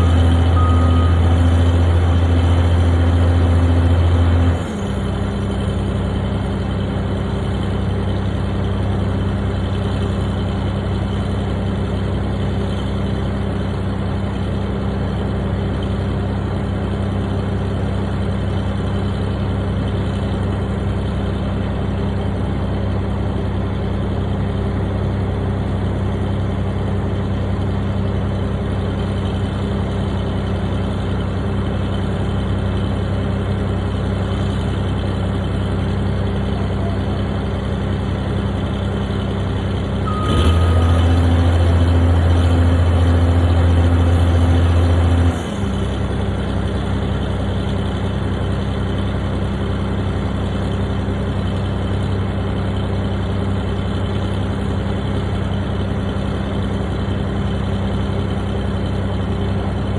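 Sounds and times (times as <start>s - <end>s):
construction equipment engine idling: 0.0s - 59.9s.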